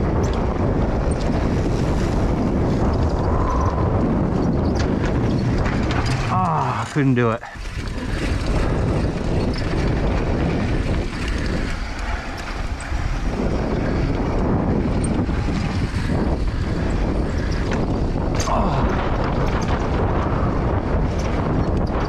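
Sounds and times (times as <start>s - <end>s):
tyres rolling over dirt trail: 0.0s - 22.0s
wind buffeting microphone: 0.0s - 22.0s.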